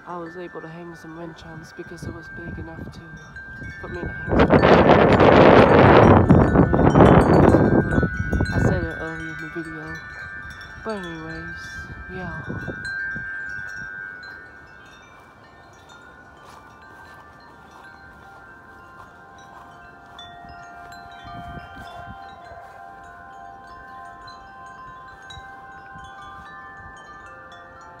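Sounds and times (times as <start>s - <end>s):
wind chimes ringing: 0.0s - 28.0s
wind rumbling: 1.3s - 28.0s.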